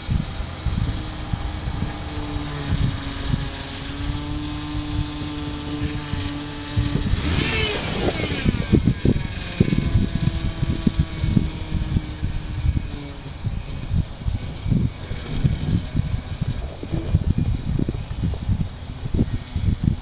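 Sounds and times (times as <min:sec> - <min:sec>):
engine revving burst: 0:00.0 - 0:18.0.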